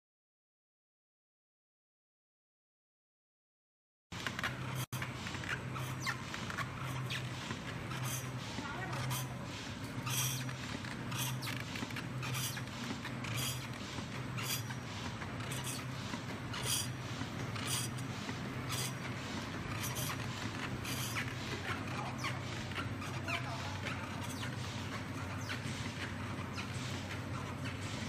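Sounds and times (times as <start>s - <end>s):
machine motor hum: 4.2s - 28.0s.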